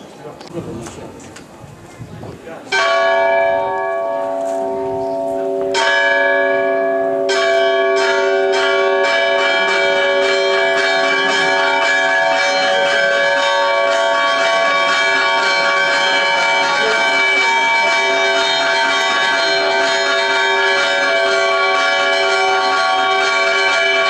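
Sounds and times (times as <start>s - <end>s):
church bells ringing: 2.7s - 24.0s.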